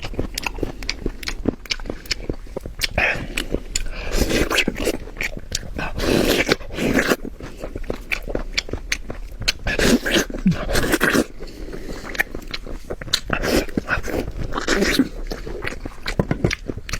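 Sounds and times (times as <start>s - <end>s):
chewing and lip-smacking: 0.0s - 16.9s.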